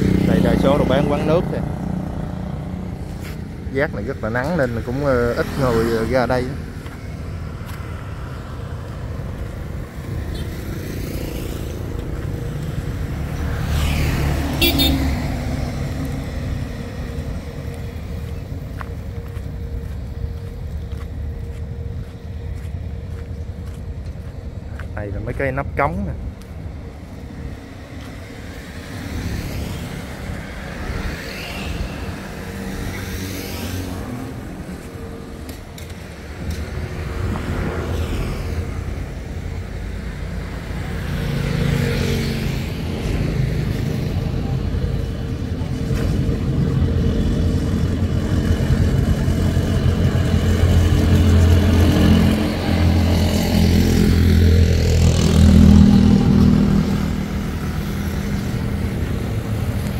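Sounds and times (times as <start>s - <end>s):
cars passing: 0.0s - 59.9s
motorbikes passing: 0.0s - 59.9s
steady engine hum: 0.0s - 59.9s.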